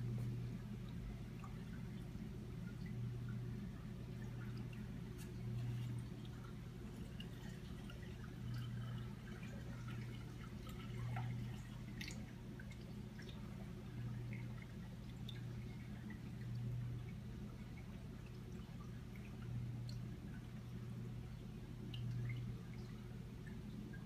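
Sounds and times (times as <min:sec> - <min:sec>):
aquarium pump hum: 0:00.0 - 0:24.0
water drips and trickles: 0:00.0 - 0:24.0.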